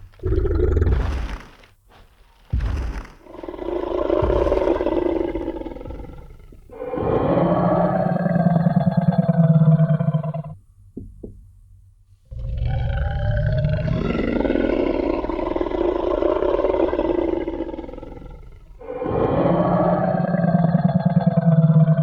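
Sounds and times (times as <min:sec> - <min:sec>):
deep dinosaur roar: 0:00.1 - 0:01.5, 0:02.5 - 0:10.6, 0:12.3 - 0:22.0.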